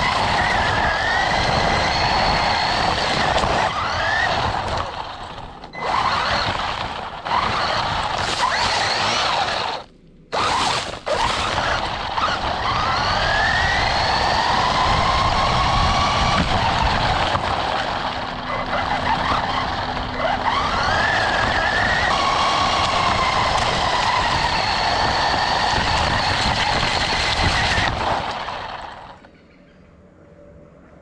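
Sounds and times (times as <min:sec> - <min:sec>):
rc car motor whining: 0:00.0 - 0:29.3
tyres rumbling on gravelly asphalt: 0:00.0 - 0:29.4.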